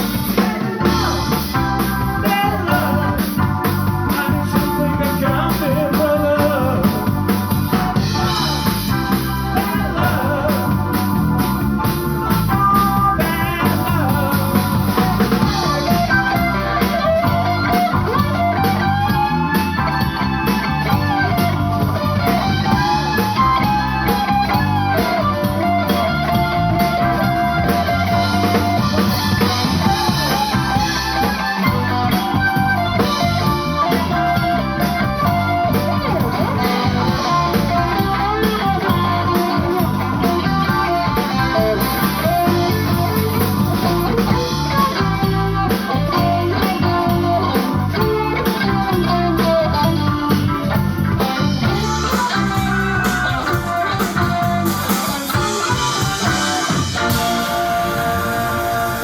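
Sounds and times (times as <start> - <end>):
blues-rock band playing: 0.0 - 59.0
drums: 0.0 - 59.0
electric guitar lead line: 0.0 - 59.0.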